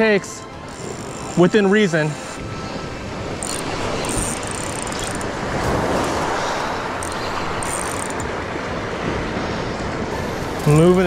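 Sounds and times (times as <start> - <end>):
ocean surf rushing: 1.3 - 11.0.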